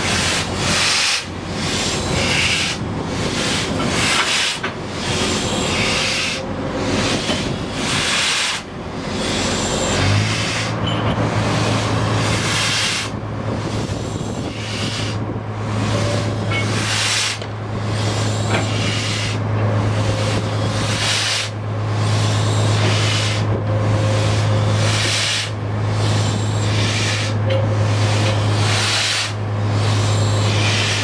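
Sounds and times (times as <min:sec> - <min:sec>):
steady low hum: 0:00.0 - 0:31.0
steam locomotive exhaust puffs: 0:00.0 - 0:31.0.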